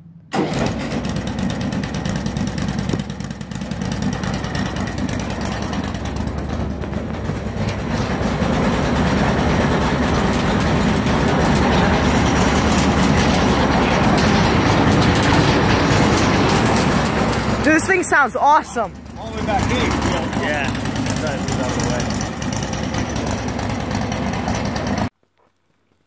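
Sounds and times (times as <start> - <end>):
race car engine running: 0.3 - 25.1.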